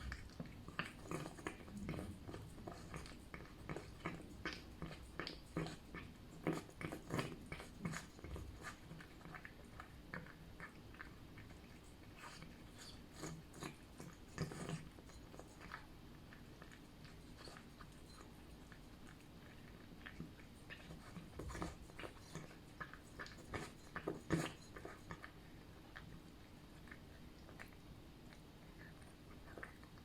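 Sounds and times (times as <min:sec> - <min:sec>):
cat chewing wet food: 0:00.0 - 0:30.0.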